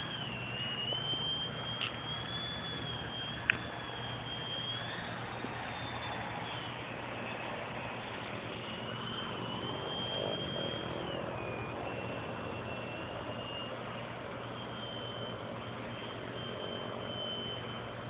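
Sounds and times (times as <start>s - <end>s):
electric propeller whine: 0.0s - 18.0s
steady rushing noise: 0.0s - 18.0s.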